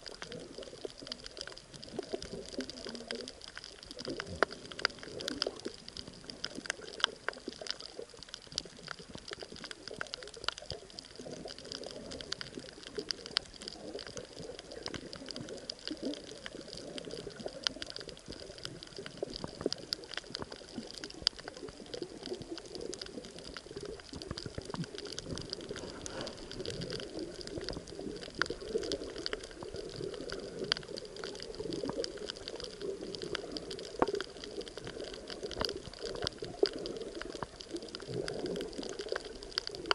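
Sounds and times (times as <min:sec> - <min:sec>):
bubbling: 0:00.0 - 0:39.9
muffled underwater water movement: 0:00.0 - 0:39.9.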